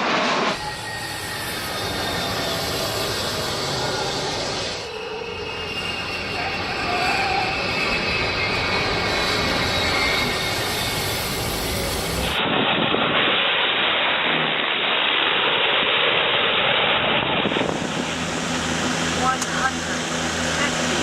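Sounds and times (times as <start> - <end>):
aircraft engine roar: 0.0 - 21.0.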